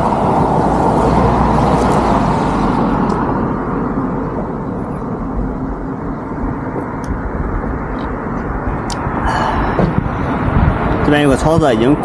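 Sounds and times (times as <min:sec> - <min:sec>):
passing vehicle hiss: 0:00.0 - 0:12.0
traffic rushing: 0:00.0 - 0:12.0
wind: 0:00.0 - 0:12.0.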